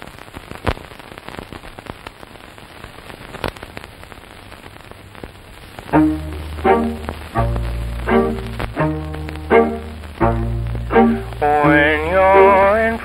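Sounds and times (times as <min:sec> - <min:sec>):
film crackle hiss: 0:00.0 - 0:13.0.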